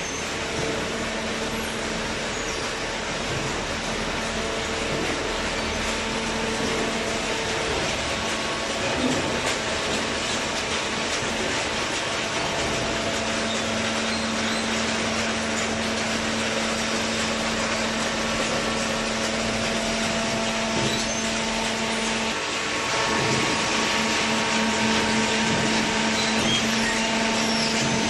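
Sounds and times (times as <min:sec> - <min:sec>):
baler machine running: 0:00.0 - 0:28.0.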